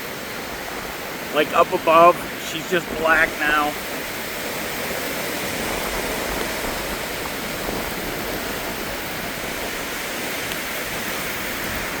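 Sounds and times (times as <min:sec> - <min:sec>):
gusting wind: 0:00.0 - 0:12.0
rain: 0:00.0 - 0:12.0.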